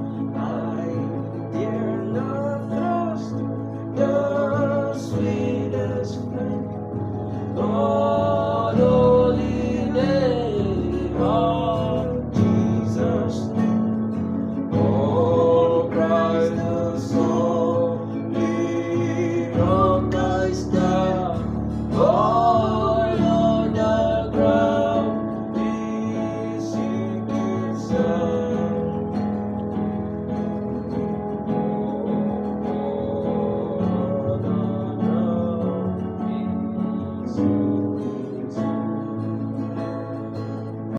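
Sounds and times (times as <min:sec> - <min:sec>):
person singing a hymn: 0:00.0 - 0:40.9
strummed acoustic guitar: 0:00.0 - 0:40.9.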